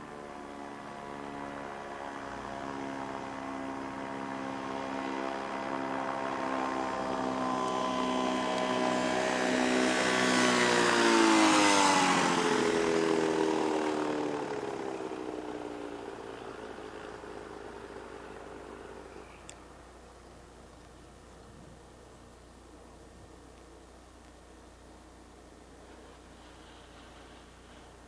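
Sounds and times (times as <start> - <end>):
ultralight airplane flying past: 0.0 - 20.1, 25.6 - 28.0.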